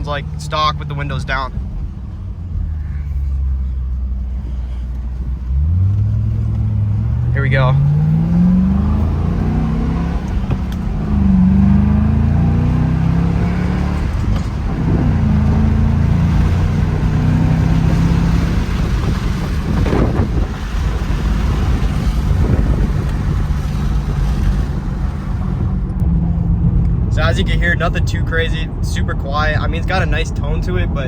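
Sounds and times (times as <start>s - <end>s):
car engine accelerating: 0.0s - 31.0s
road and wind noise: 0.0s - 31.0s.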